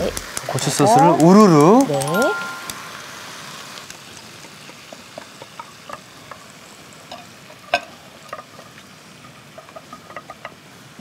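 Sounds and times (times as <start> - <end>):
sauce sizzling and popping in pan: 0.0 - 11.0.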